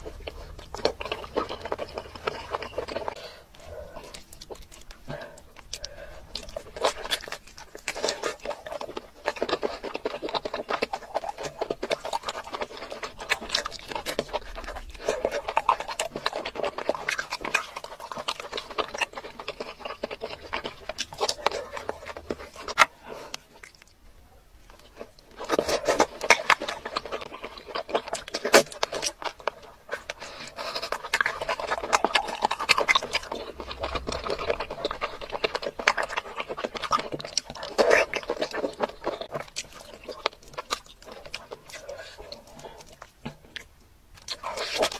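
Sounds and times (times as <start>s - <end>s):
wet chewing and lip-smacking: 0.0s - 44.9s.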